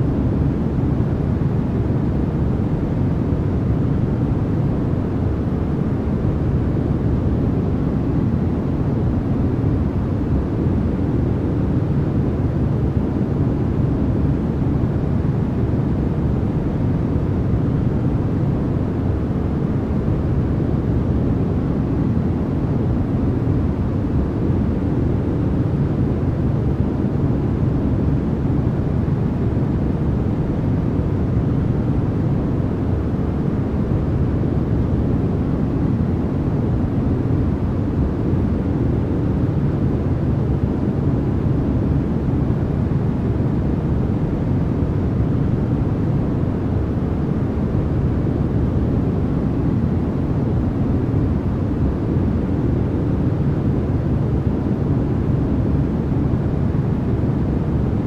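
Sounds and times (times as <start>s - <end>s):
deep white noise hiss: 0.0s - 58.0s.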